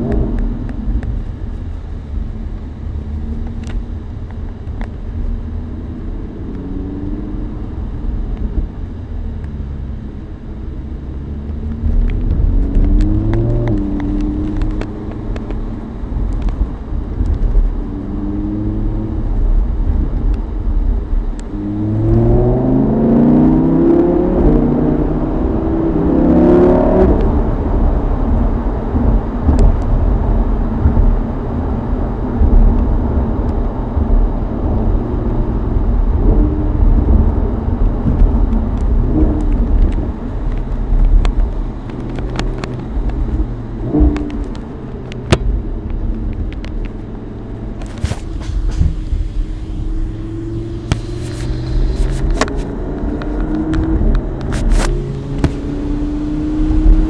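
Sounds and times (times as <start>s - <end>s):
road and wind noise: 0.0s - 57.0s
sports car engine revving: 0.0s - 57.0s.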